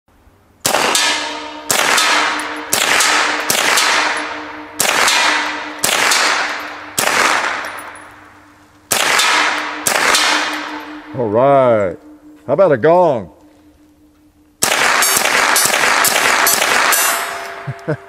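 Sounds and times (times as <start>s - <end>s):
rifle shots with ringing decay: 0.6s - 12.3s, 14.6s - 17.7s.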